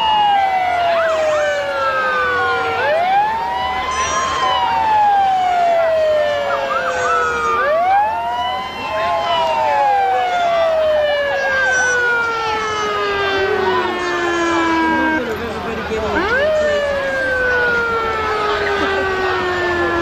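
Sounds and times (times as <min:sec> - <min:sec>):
police sirens wailing: 0:00.0 - 0:20.0.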